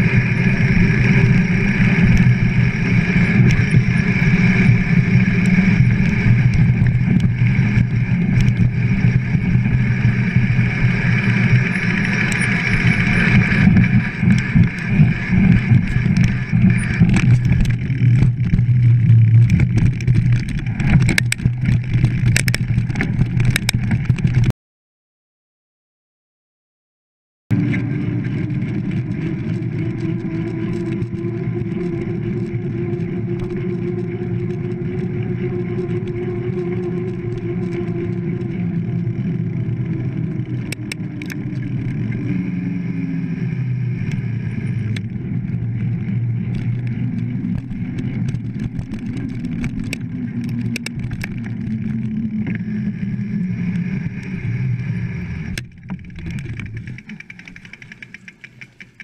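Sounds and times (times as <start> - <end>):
bike clicks and rattles: 0.0 - 24.5, 27.5 - 59.0.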